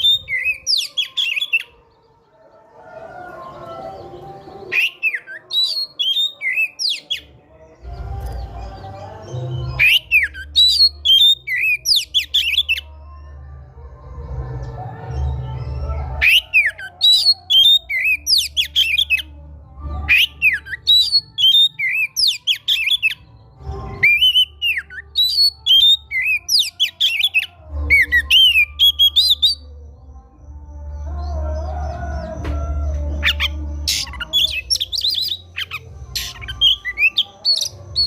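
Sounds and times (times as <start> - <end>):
magpie-robin singing: 0.0 - 1.8, 3.7 - 13.3, 15.1 - 29.8, 32.1 - 38.0.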